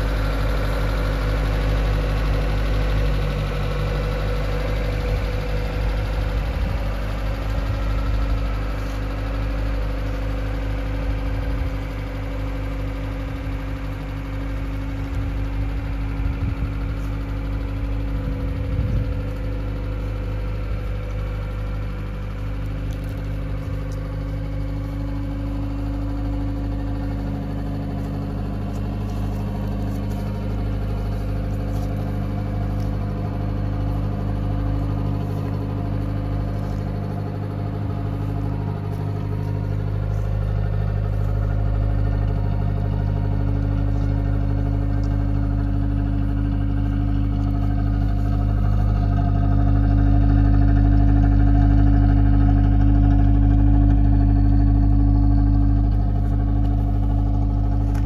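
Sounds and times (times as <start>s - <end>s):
pickup engine idling: 0.0s - 58.0s.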